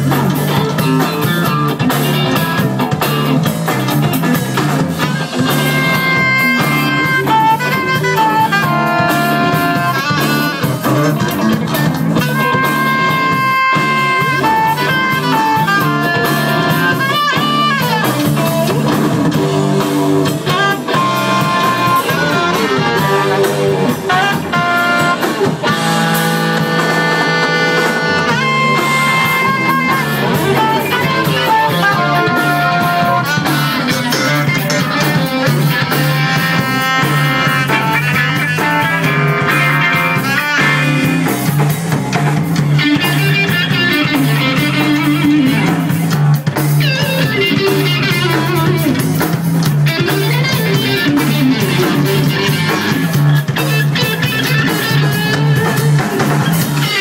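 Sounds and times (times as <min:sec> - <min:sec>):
bass: 0:00.0 - 0:57.0
drum kit: 0:00.0 - 0:57.0
electric guitar lead lines: 0:00.0 - 0:57.0.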